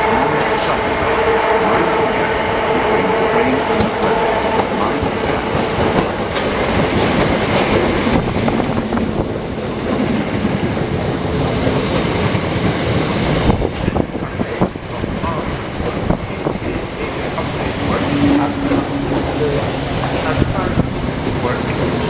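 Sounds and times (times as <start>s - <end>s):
train wheels rumbling and clacking: 0.0s - 22.0s.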